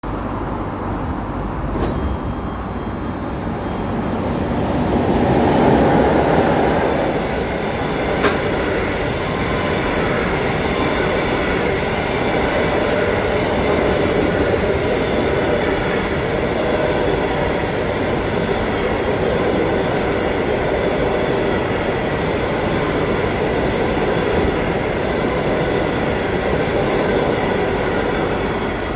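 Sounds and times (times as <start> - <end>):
faint high whines: 0.0 - 28.9
train rumbling on rails: 0.0 - 28.9.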